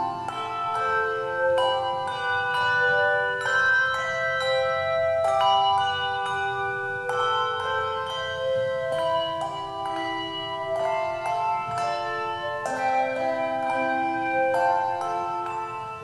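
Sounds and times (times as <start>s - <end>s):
handbells ringing chords: 0.0s - 16.0s.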